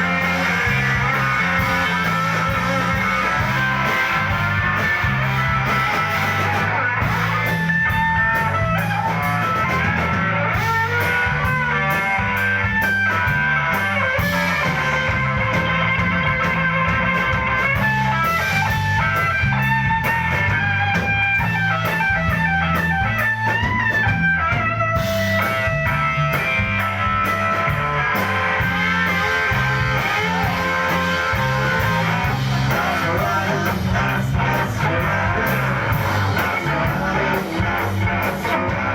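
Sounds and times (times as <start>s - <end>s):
bass line: 0.0s - 38.9s
drums: 0.0s - 38.9s
electric guitar lead: 0.0s - 38.9s.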